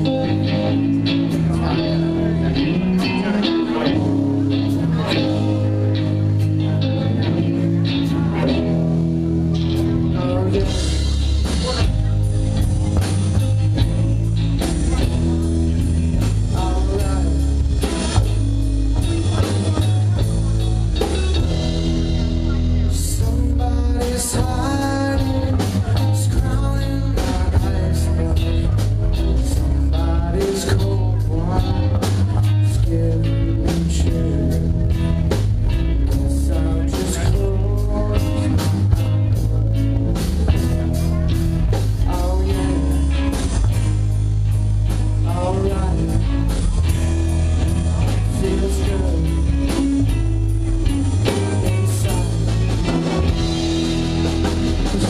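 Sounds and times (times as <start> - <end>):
person singing: 0.0 - 44.0, 44.8 - 55.0
bass guitar: 0.0 - 55.0
drum kit: 0.0 - 55.0
electric guitar: 0.0 - 55.0.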